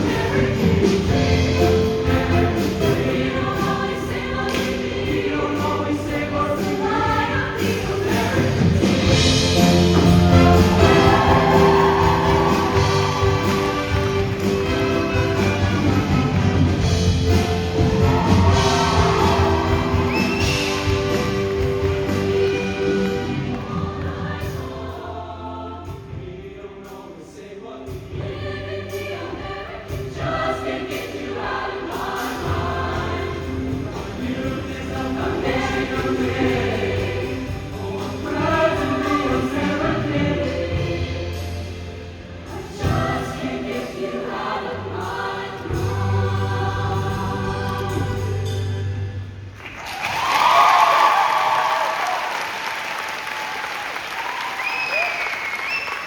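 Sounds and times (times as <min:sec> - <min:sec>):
choir singing: 0:00.0 - 0:49.1
musical accompaniment: 0:00.0 - 0:56.0.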